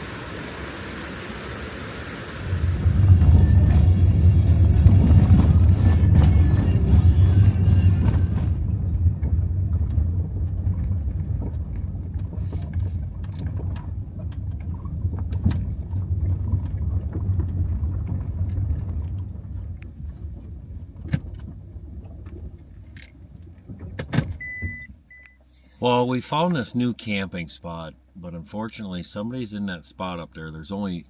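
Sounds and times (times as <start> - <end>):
road and tyre rumble: 0.0 - 27.1.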